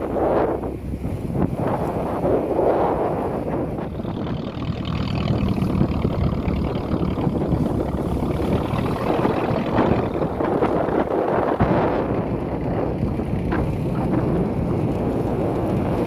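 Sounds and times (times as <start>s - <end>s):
boat engine droning: 0.0s - 16.0s
water rushing: 0.0s - 16.0s.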